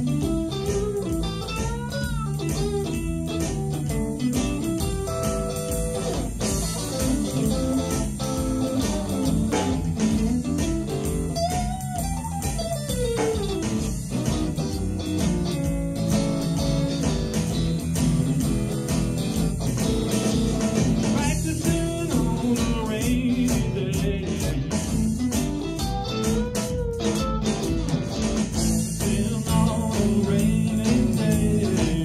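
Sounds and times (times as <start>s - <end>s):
bass guitar: 0.0s - 32.0s
drums: 0.0s - 32.0s
electric guitar playing: 0.0s - 32.0s.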